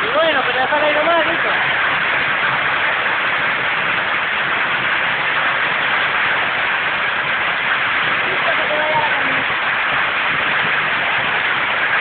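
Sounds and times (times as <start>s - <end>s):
hail and rain pelting down: 0.0s - 12.0s.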